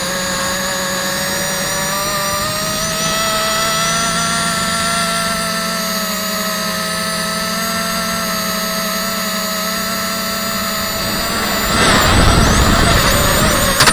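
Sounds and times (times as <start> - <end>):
drone motors and propellers whining: 0.0 - 13.9.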